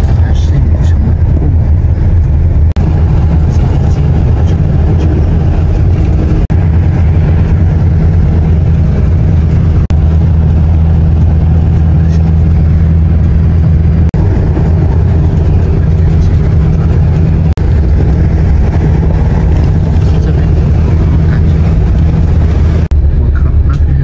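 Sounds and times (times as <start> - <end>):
bus engine drone and road noise: 0.0 - 24.0.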